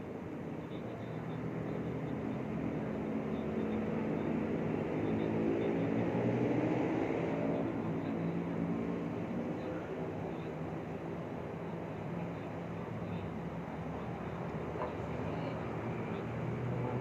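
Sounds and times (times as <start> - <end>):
motor traffic: 0.0 - 17.0.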